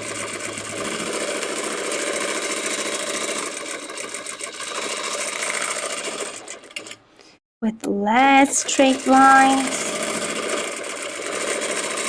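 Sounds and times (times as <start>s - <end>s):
sewing machine stitching rapidly: 0.0s - 7.0s, 8.6s - 12.0s.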